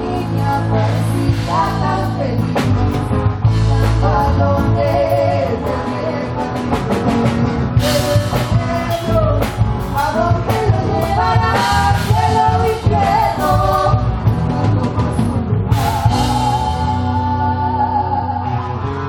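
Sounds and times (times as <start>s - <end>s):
folk group singing: 0.0s - 6.8s, 7.8s - 18.9s.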